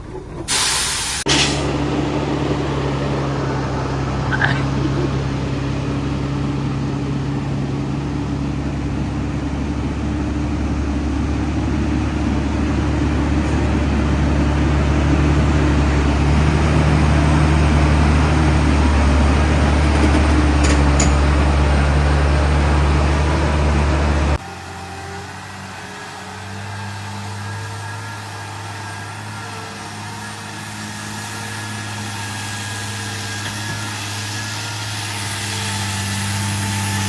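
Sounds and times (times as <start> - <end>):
truck engine running hard: 0.0 - 37.0.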